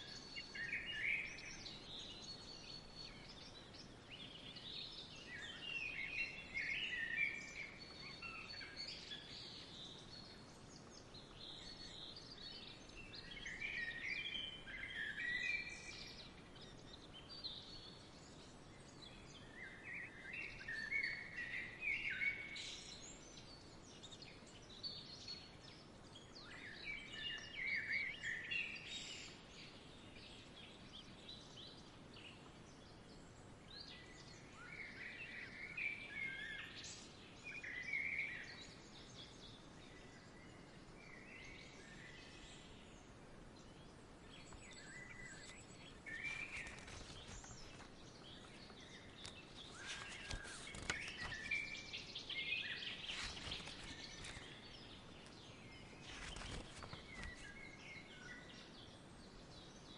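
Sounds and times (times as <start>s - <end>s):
faint outdoor hiss: 0.0s - 59.9s
songbirds chirping: 0.0s - 59.9s.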